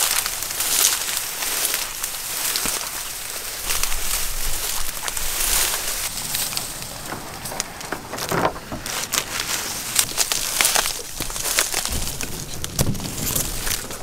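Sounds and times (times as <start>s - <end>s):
dry reeds rustling and crackling: 0.0s - 14.0s
stems snapping: 0.0s - 14.0s.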